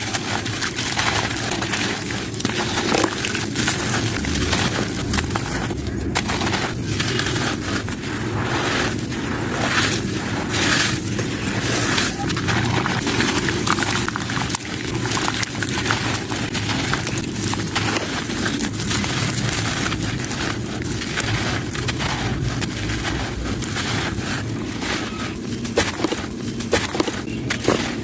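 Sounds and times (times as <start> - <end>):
sand-cement chunks crumbling by hand: 0.0 - 28.0.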